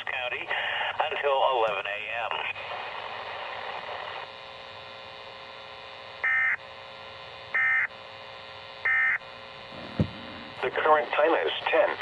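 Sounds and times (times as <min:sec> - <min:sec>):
steady radio hum: 0:00.0 - 0:12.0.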